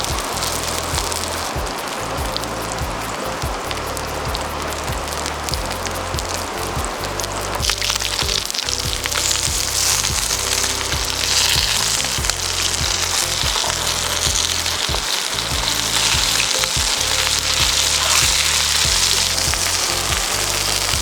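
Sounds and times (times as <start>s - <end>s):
fish deep-frying in hot oil: 0.0s - 21.0s.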